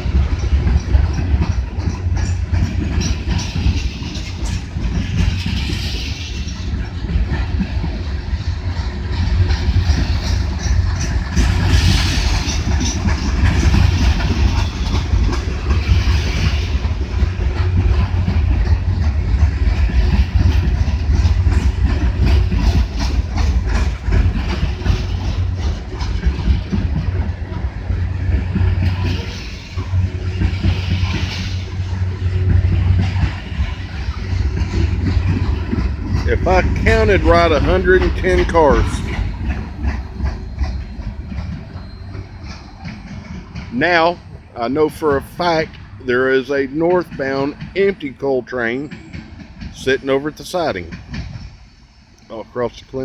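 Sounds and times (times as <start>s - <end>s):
train wheels rumbling on rail: 0.0s - 53.0s
wheels clickety-clack: 0.0s - 53.0s.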